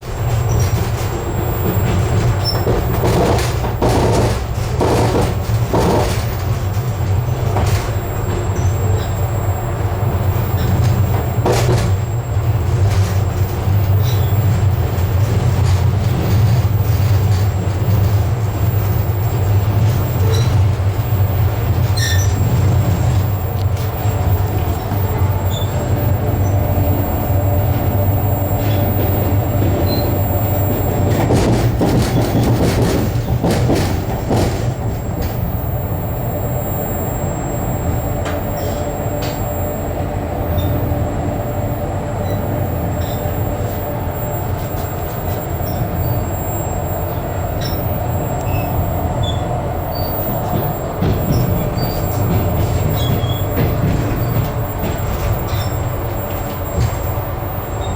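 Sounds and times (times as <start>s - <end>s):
steady hum: 0.0s - 57.9s
train wheels rumbling: 0.0s - 57.9s.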